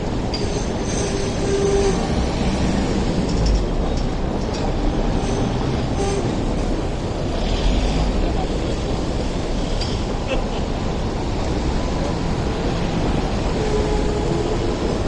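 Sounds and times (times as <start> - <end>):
road traffic passing: 0.0 - 15.0
tram rumbling on track: 0.0 - 15.0.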